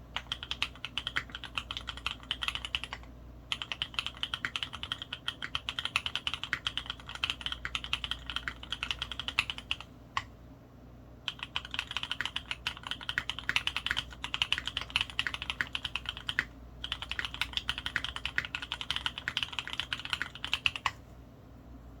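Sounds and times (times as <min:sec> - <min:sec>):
mechanical keyboard typing: 0:00.2 - 0:09.8, 0:11.3 - 0:21.0.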